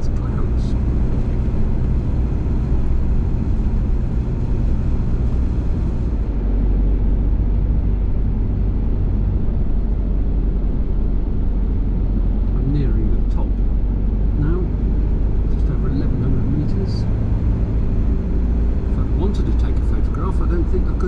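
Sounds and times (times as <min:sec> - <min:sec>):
van engine and road noise: 0:00.0 - 0:21.0.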